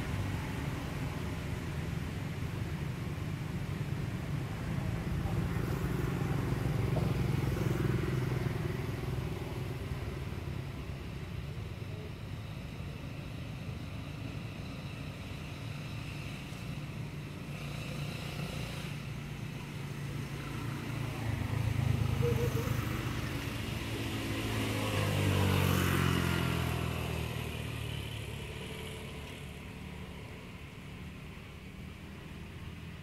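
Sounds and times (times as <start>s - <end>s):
vehicle engine humming: 0.0s - 33.0s.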